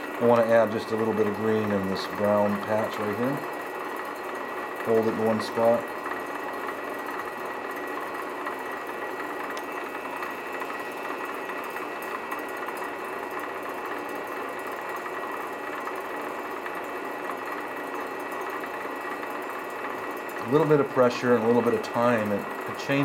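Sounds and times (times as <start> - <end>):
lathe machine whine: 0.0 - 23.0.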